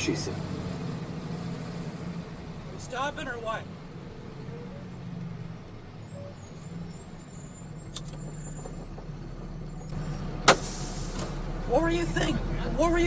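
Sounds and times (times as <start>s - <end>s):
vehicle engine hum and road noise: 0.0s - 13.0s.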